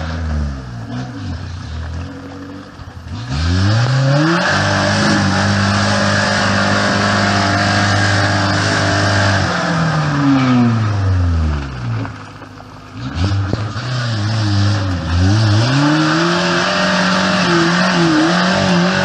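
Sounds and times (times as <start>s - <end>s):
off-road vehicle engine revving: 0.0s - 12.2s, 12.8s - 19.0s.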